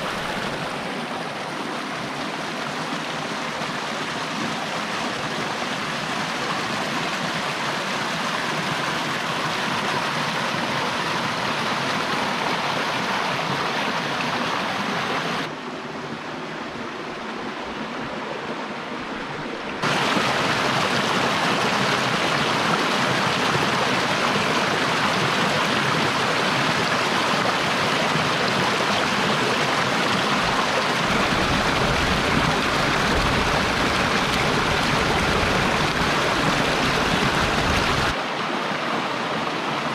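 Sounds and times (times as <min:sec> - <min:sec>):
creek running over stones: 0:00.0 - 0:39.9
water churning through cascade: 0:00.0 - 0:39.9.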